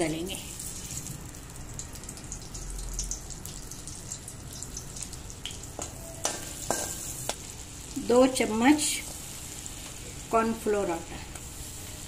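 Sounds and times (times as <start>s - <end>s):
butter sizzling in hot oil: 0.0s - 12.0s.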